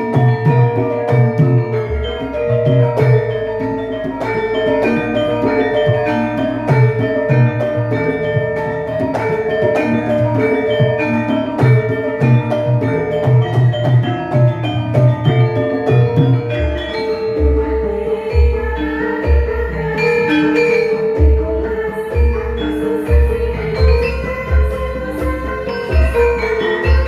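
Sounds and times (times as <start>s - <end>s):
metallophones struck in rhythm: 0.0s - 27.0s.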